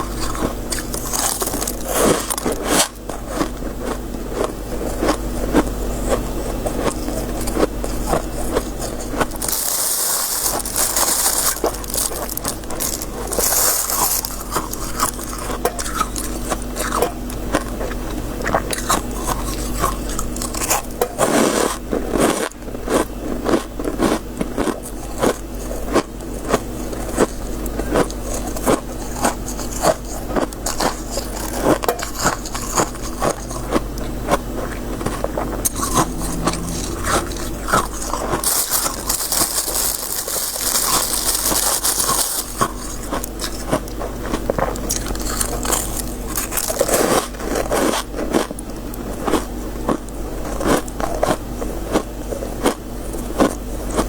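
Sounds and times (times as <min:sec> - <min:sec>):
crunching and chewing frost: 0:00.0 - 0:54.0.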